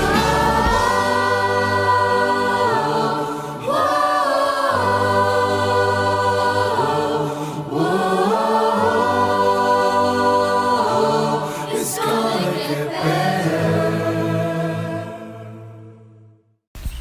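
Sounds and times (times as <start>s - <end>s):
voices singing in harmony: 0.0s - 16.2s.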